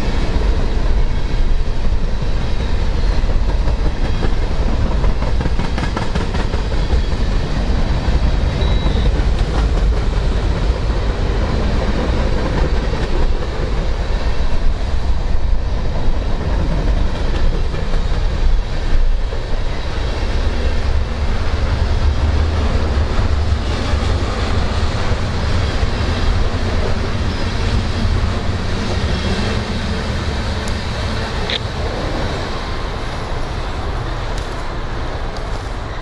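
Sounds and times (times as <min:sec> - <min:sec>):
freight train rumbling past: 0:00.0 - 0:36.0.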